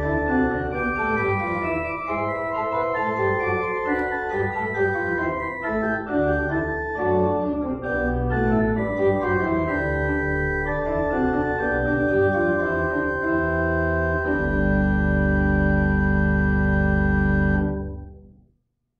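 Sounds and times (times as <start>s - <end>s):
pipe organ chords: 0.0s - 18.3s.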